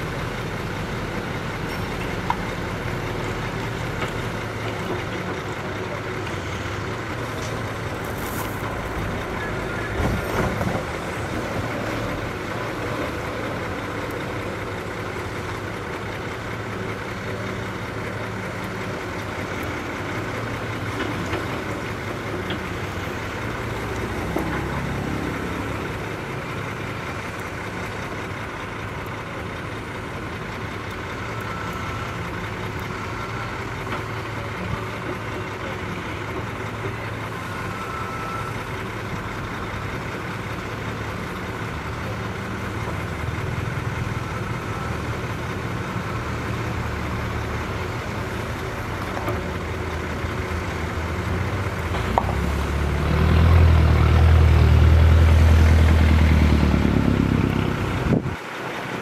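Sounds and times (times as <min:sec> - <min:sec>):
heavy diesel engine idling: 0:00.0 - 0:59.0.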